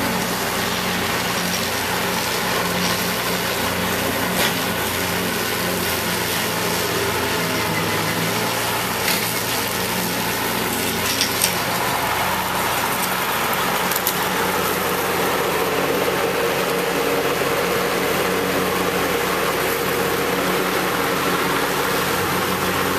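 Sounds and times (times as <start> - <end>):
rotary mower cutting weeds: 0.0 - 22.9
tractor engine running: 0.0 - 22.9.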